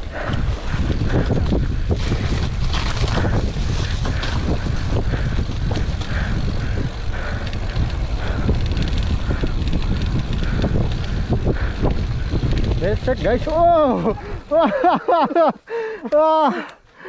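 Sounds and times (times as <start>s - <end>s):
wind buffeting microphone: 0.0s - 15.0s
mountain bike rattling on trail: 0.0s - 15.2s.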